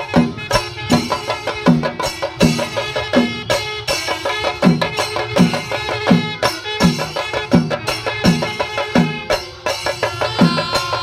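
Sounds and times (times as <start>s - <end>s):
drums beaten with sticks: 0.0s - 11.0s.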